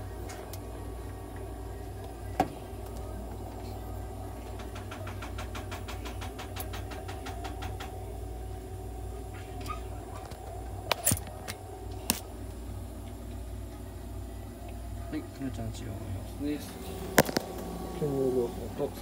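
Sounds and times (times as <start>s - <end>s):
nebulizer machine humming: 0.0s - 19.0s.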